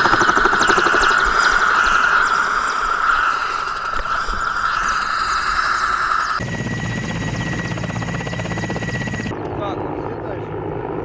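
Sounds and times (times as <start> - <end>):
helicopter turbine whine: 0.0 - 11.0
low helicopter drone: 0.0 - 11.0.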